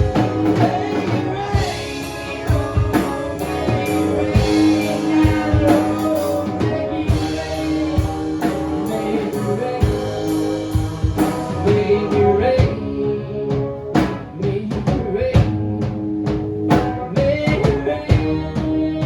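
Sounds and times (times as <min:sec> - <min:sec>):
drum kit beat: 0:00.0 - 0:12.9, 0:13.6 - 0:18.8
person singing: 0:00.0 - 0:15.8, 0:17.0 - 0:19.0
guitar chords: 0:00.0 - 0:19.0.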